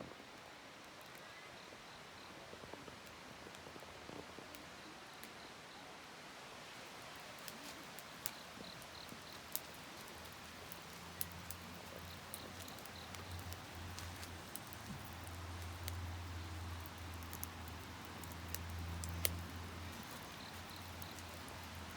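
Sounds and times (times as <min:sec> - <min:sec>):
wood fire crackling and popping: 0:02.6 - 0:05.3, 0:06.7 - 0:21.9.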